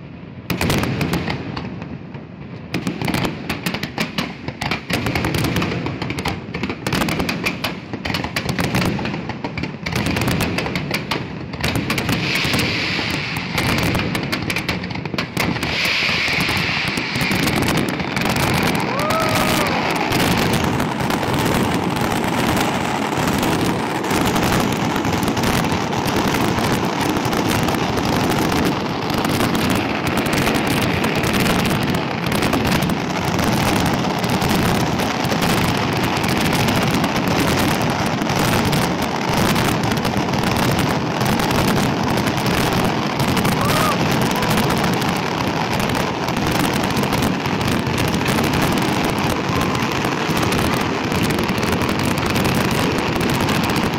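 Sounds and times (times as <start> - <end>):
fireworks banging and crackling: 0.0 - 53.9.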